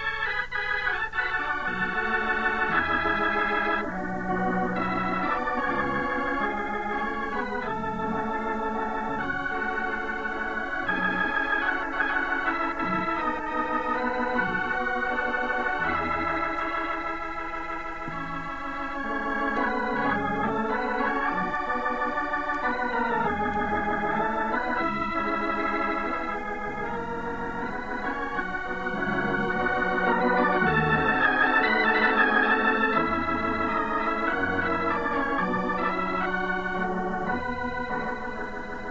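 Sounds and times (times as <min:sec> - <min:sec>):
organ playing slow chords: 0:00.0 - 0:38.9.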